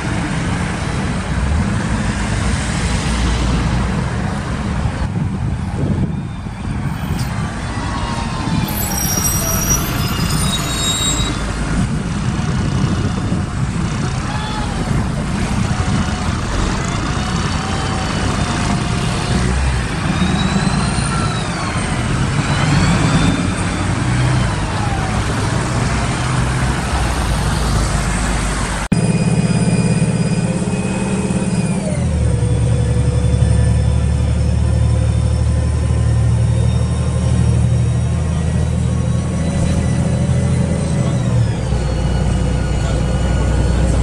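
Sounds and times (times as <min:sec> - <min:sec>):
bus engine drone: 0:00.0 - 0:44.0
vehicles passing: 0:00.0 - 0:44.0
engines revving: 0:07.3 - 0:44.0.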